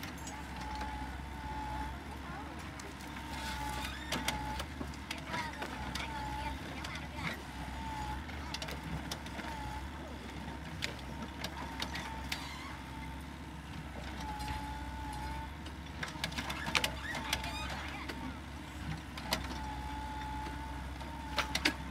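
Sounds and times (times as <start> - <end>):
low engine rumble: 0.0 - 21.9.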